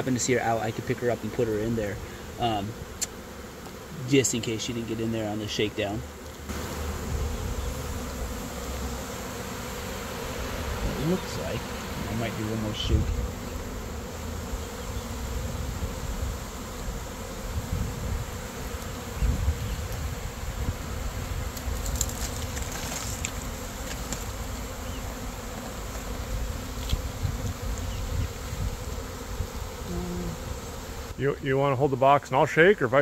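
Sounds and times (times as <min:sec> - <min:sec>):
bee swarm buzzing: 0:00.0 - 0:33.0.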